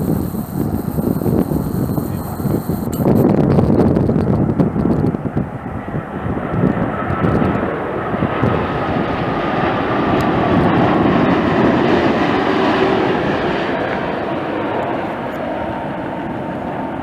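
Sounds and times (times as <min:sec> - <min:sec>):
falling jet whine: 0:00.0 - 0:17.0
jet engine roar: 0:00.0 - 0:17.0
wind buffeting microphone: 0:00.0 - 0:17.0.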